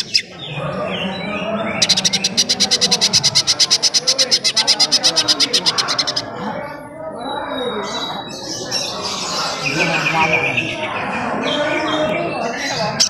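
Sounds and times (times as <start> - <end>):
murmur of voices: 0.0 - 13.0
soft varied bird notes: 0.0 - 13.0.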